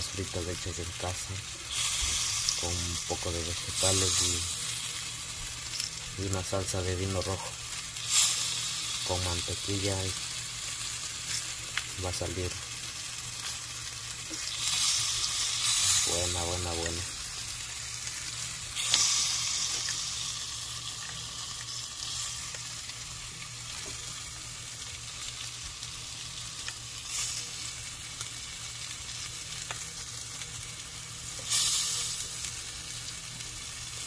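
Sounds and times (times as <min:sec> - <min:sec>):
steak sizzling on grill pan: 0:00.0 - 0:34.0.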